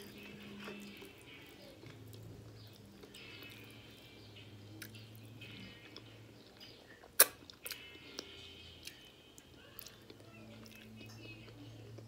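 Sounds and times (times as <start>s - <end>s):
person chewing: 0.0s - 4.1s, 4.8s - 12.0s.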